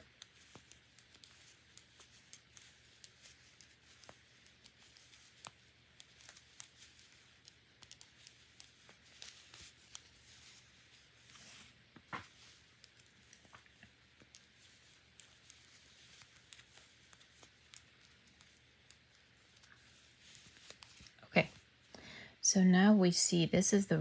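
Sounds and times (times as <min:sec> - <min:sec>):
knitting needles clicking: 0:00.0 - 0:11.4, 0:12.0 - 0:21.8.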